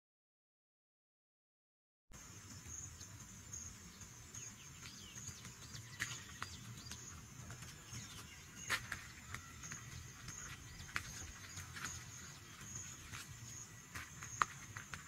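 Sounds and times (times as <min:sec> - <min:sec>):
bird chirps: 0:02.2 - 0:15.0
pulsing high-pitched insect call: 0:02.2 - 0:15.0.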